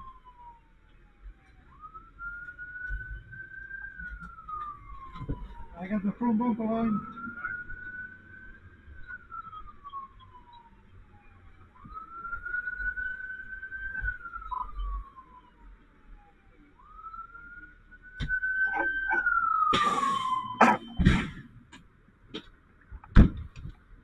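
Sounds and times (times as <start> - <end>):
fire engine siren wailing: 0.0 - 21.6.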